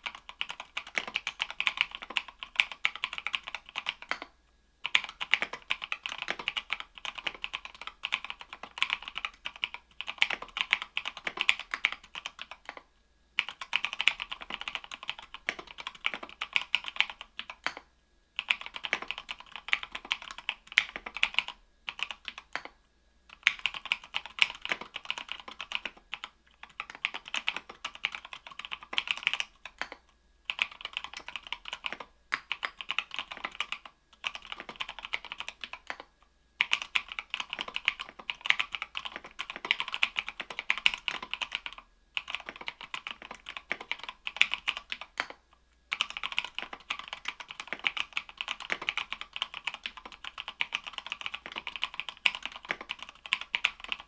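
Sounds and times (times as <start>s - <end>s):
typing on mechanical keyboard: 0.0s - 17.8s, 18.4s - 54.0s.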